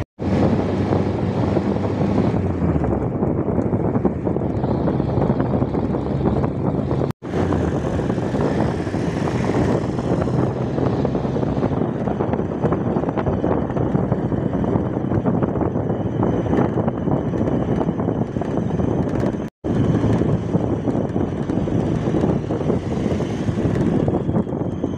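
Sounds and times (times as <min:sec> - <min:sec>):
engine hum: 0:00.0 - 0:24.9
road noise: 0:00.0 - 0:24.9
wind noise: 0:00.0 - 0:24.9.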